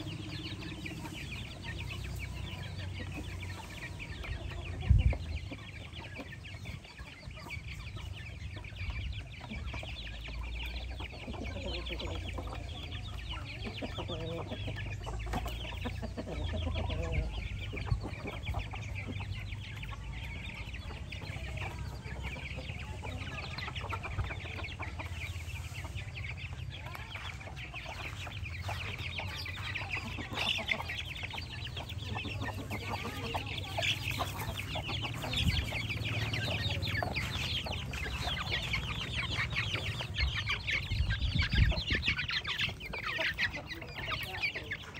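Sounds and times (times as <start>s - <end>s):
chicks peeping and clucking: 0.0s - 44.9s.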